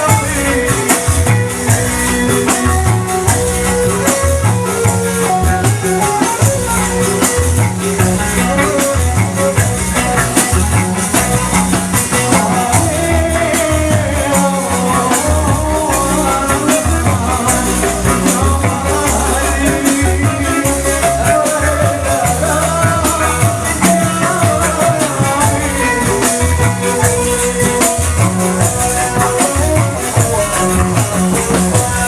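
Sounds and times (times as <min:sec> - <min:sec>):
loud band music over speakers: 0:00.0 - 0:32.0.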